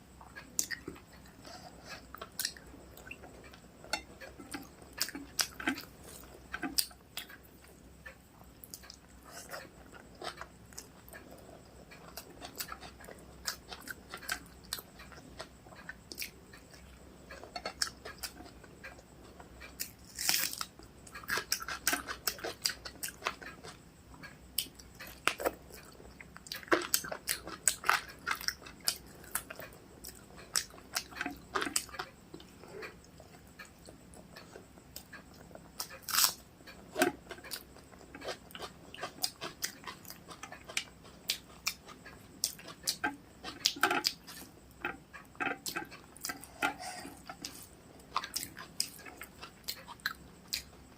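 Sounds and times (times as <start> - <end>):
person chewing food: 0.1 - 50.9.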